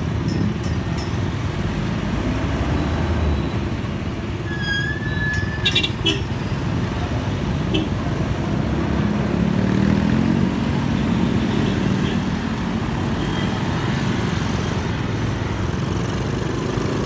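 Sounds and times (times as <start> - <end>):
traffic engines: 0.0 - 17.0.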